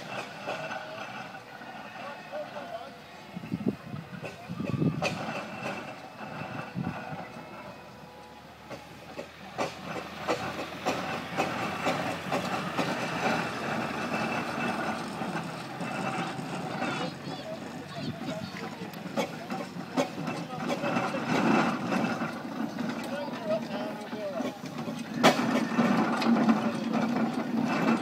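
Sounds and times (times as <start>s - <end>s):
engine clanking and knocking: 0.0s - 28.0s
steam hissing: 0.0s - 28.0s.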